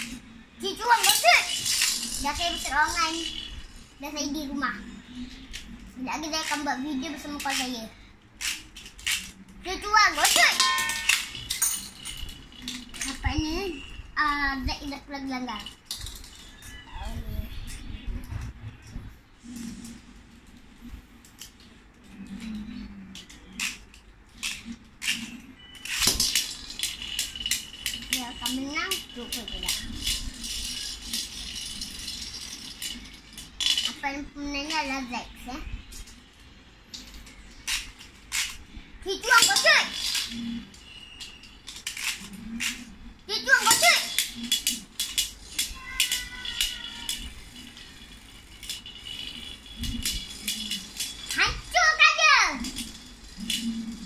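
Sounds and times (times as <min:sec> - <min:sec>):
spinning tops clattering in metal bowl: 0:00.0 - 0:07.8, 0:08.4 - 0:13.9, 0:23.2 - 0:36.2, 0:36.9 - 0:54.0.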